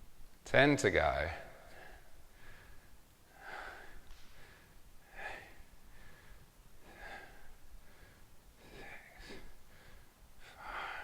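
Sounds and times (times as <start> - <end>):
person breathing out hard: 1.7 - 11.0.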